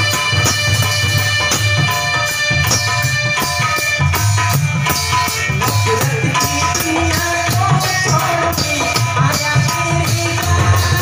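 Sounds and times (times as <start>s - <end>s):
hand drums beating: 0.0s - 11.0s
jingling percussion: 0.0s - 11.0s.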